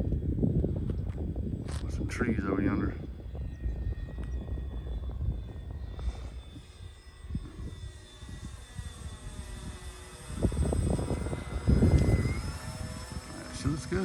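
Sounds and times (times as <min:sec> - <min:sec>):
model airplane motor whine: 0:00.0 - 0:14.0
wind buffeting microphone: 0:00.0 - 0:14.0.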